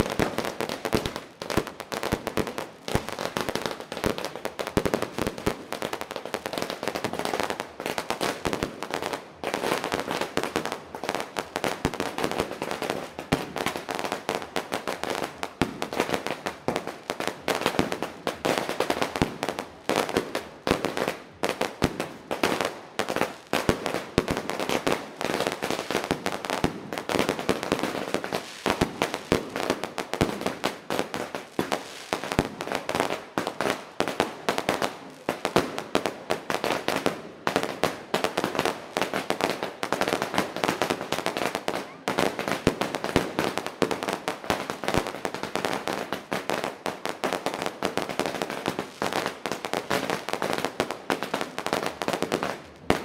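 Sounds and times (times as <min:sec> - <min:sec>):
fireworks banging and crackling: 0:00.0 - 0:53.0.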